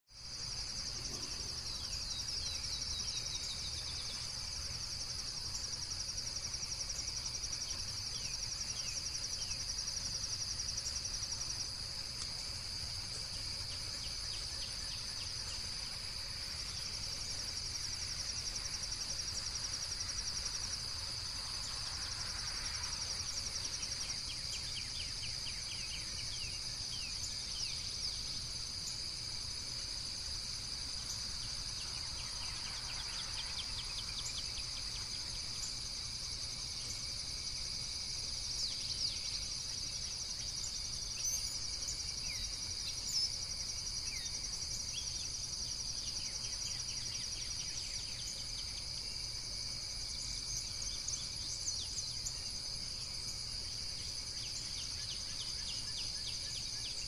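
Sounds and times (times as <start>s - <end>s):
insects trilling: 0.1s - 57.0s
rapid cricket-like pulsing: 0.1s - 57.0s.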